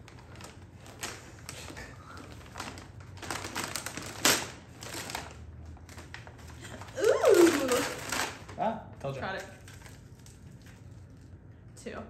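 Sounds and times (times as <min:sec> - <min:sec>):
wrapping paper crinkling and tearing: 0:00.0 - 0:11.5.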